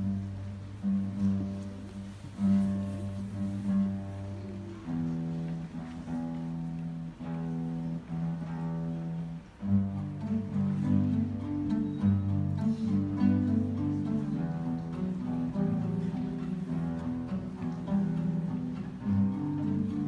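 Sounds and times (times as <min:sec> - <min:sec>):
classical guitar ensemble: 0:00.0 - 0:20.0.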